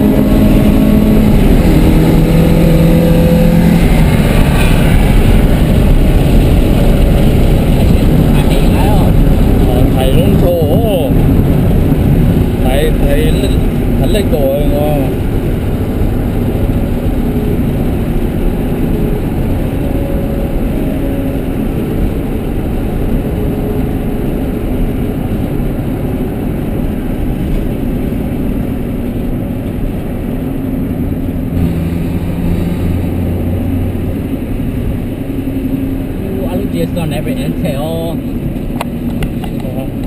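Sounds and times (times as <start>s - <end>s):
car engine running hard: 0.0s - 40.0s
road noise: 0.0s - 40.0s.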